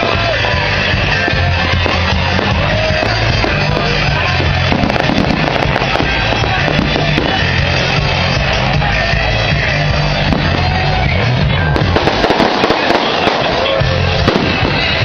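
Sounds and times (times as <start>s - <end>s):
fireworks bangs and crackles: 0.0s - 15.0s
loud music with heavy bass: 0.0s - 15.0s.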